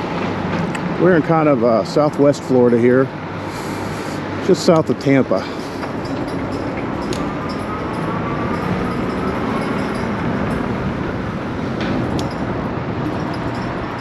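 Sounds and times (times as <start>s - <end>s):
wind and tyre noise: 0.0s - 14.0s.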